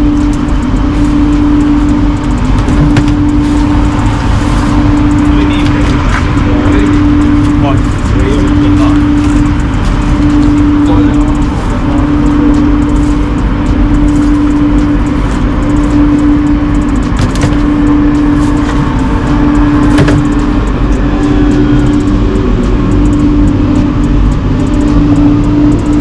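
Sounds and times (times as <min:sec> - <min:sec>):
low rumble: 0:00.0 - 0:26.0
steady mechanical hum: 0:00.0 - 0:26.0.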